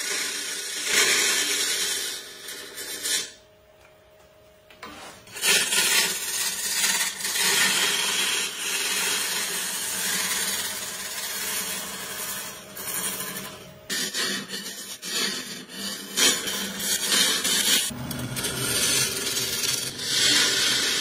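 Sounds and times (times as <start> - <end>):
lathe tool scraping wood: 0.0 - 3.4, 4.8 - 21.0.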